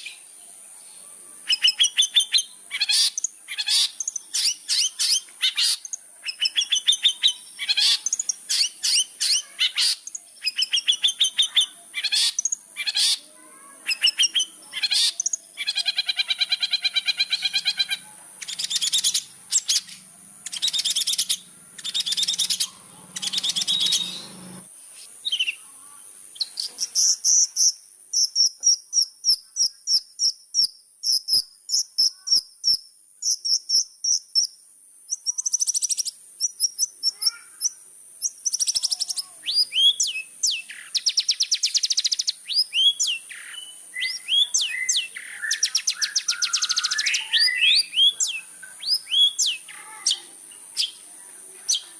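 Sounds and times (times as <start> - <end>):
bird chattering song: 0.0 - 51.9
high thin insect-like tone: 0.0 - 51.9.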